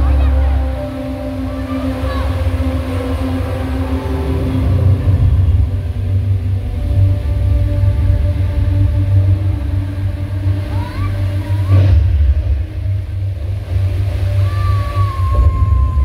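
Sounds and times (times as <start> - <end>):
fountain water jets rumbling: 0.0 - 16.0.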